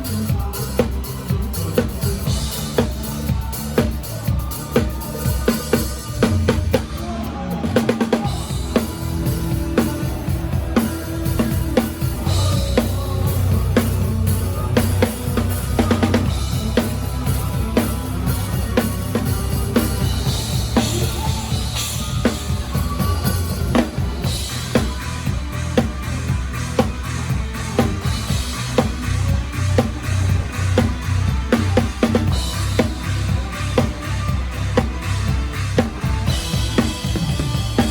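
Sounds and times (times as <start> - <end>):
band playing live: 0.0 - 37.9
bass guitar: 0.0 - 37.9.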